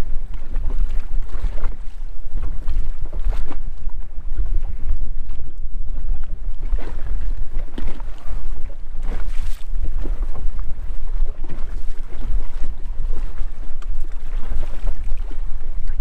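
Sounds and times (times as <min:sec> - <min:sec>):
water splashing against boat: 0:00.0 - 0:16.0
wind buffeting microphone: 0:00.0 - 0:16.0.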